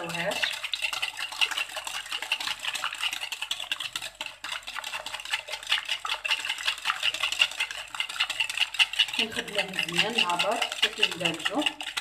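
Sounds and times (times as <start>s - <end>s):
whisk clicking against glass bowl: 0.0s - 12.0s.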